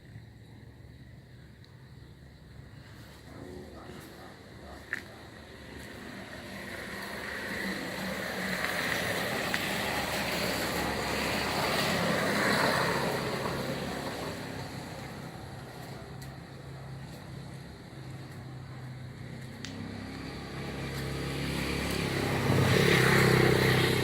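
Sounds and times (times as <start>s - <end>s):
vehicle passing by: 2.6s - 24.0s.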